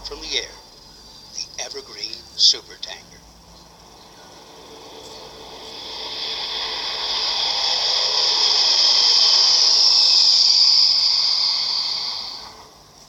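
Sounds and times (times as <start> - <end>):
jet aircraft passing: 1.4 - 12.9.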